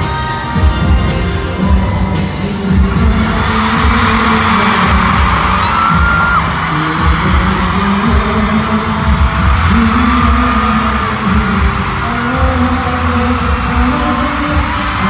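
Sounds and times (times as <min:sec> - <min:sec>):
amplified pop music with singing: 0:00.0 - 0:15.0.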